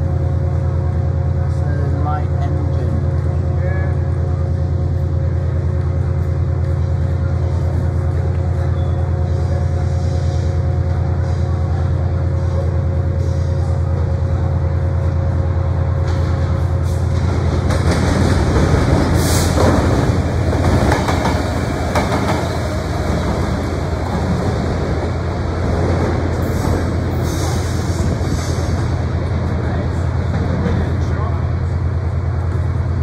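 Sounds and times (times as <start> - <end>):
diesel locomotive engine throb: 0.0 - 33.0
rail noise: 0.0 - 33.0.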